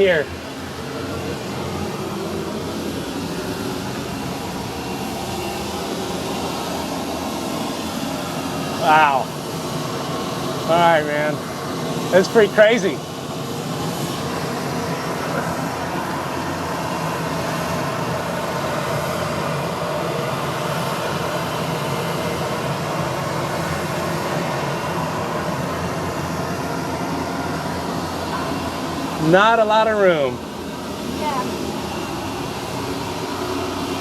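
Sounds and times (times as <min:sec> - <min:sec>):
steady mechanical drone: 0:00.0 - 0:34.0.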